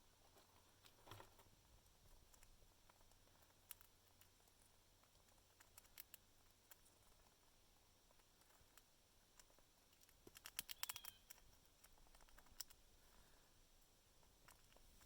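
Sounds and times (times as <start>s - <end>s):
squirrel cracking peanut shells: 0.8s - 13.0s, 14.2s - 15.0s.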